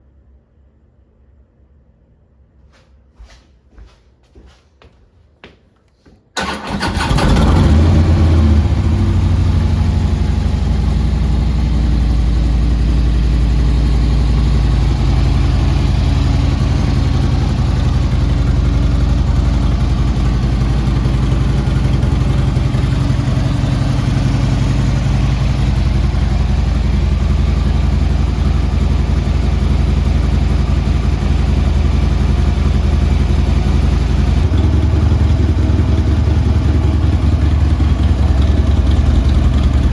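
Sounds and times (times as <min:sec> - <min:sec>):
motorcycle engine idling: 0:06.4 - 0:39.9.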